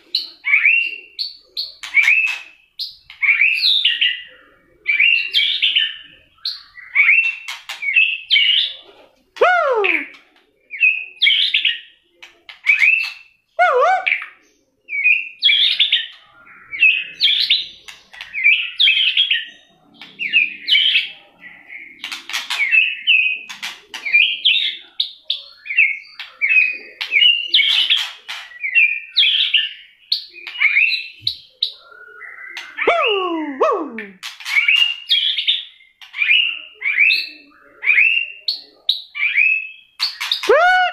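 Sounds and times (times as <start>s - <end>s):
bird singing whistles and chatters: 0.0s - 8.8s, 9.4s - 40.9s.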